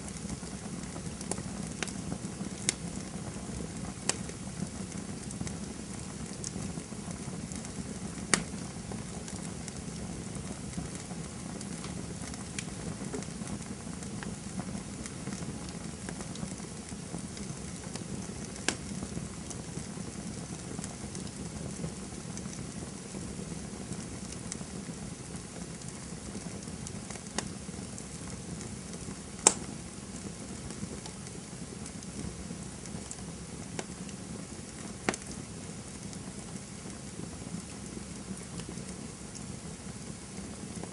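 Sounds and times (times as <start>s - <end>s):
campfire hissing and rumbling: 0.0s - 40.9s
fire crackles and pops: 0.0s - 40.9s.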